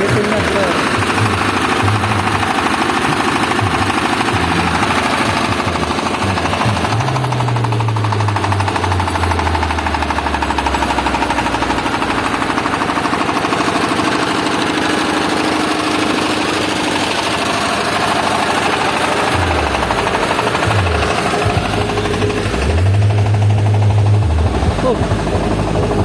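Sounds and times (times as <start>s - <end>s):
deep bass notes: 0.0s - 16.2s, 16.8s - 26.0s
diesel generator engine knocking: 0.0s - 26.0s.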